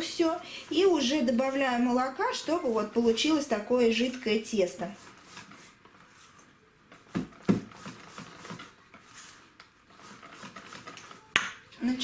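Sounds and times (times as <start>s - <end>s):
whisk stirring thick batter: 0.0s - 6.5s, 7.2s - 11.4s.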